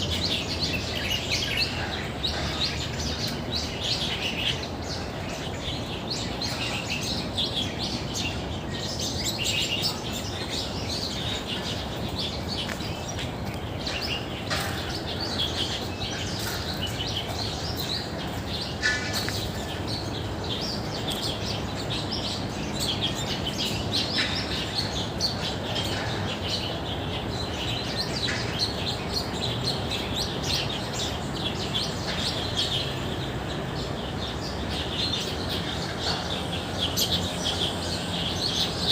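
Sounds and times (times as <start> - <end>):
low background noise: 0.0 - 38.9
small birds chirping: 0.0 - 38.9.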